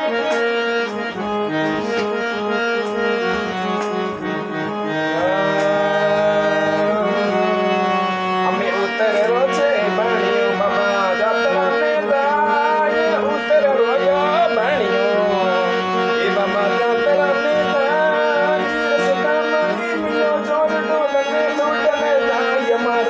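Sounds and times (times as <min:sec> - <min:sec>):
instrumental folk music: 0:00.0 - 0:23.0.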